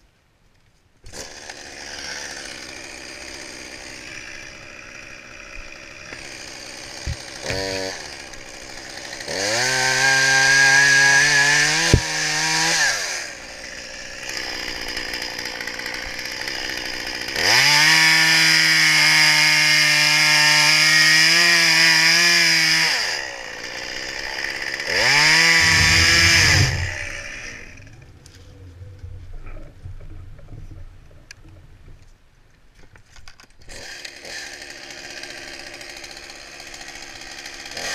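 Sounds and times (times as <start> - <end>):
chainsaw revving: 1.1 - 28.1, 33.6 - 37.9.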